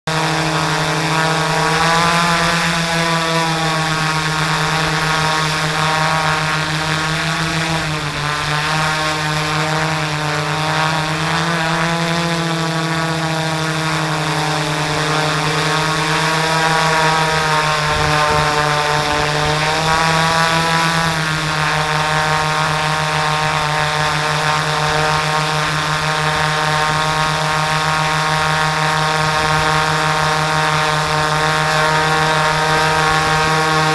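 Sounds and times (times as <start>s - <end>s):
drone propellers buzzing: 0.1s - 33.9s.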